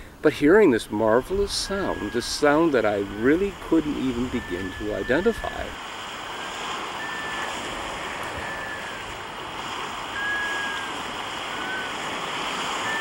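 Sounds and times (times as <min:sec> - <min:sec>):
wind: 0:00.0 - 0:13.0
water washing: 0:00.3 - 0:13.0
ducks whistling: 0:00.9 - 0:09.2, 0:10.0 - 0:12.1, 0:12.8 - 0:13.0.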